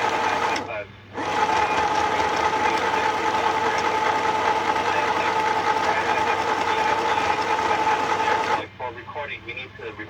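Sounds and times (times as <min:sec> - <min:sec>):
sewing machine running: 0:00.0 - 0:08.7.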